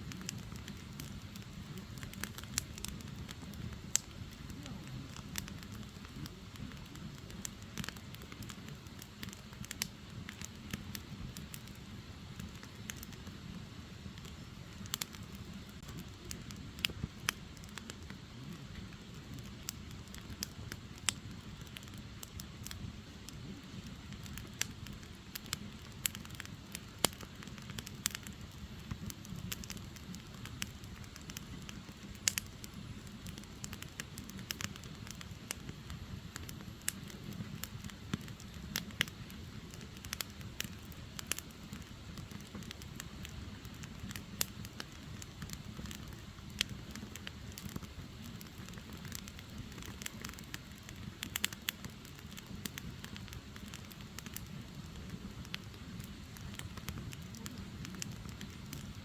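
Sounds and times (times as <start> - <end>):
firewood crackling and popping: 0.0 - 59.0
wood fire burning: 0.0 - 59.0.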